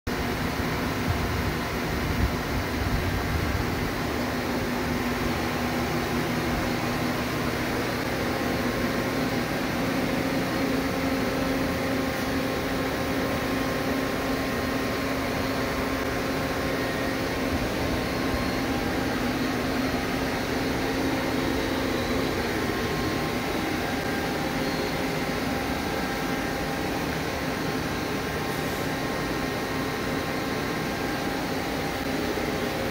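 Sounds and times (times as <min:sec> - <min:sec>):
electric machinery humming: 0:00.1 - 0:32.9.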